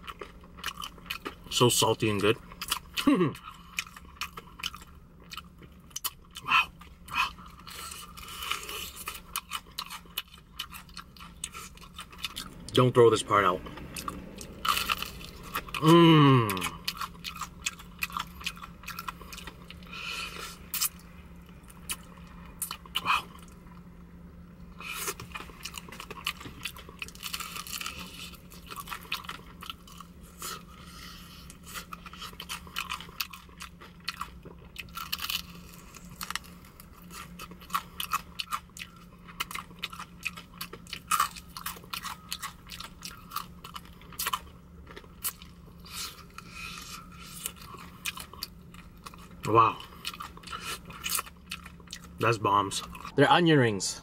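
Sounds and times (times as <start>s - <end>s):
crunchy chewing: 0.0s - 53.2s.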